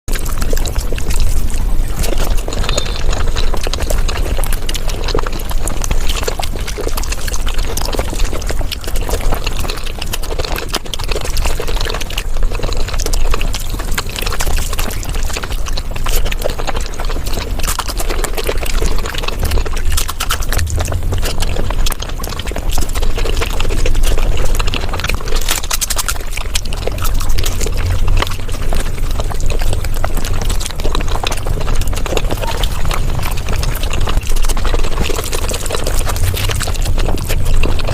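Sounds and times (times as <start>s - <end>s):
sped-up chewing and mouth smacks: 0.1s - 37.9s.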